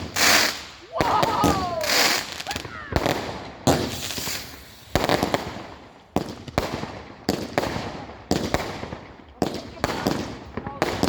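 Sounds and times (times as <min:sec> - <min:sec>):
fireworks bangs with rumbling echo: 0:00.0 - 0:11.0.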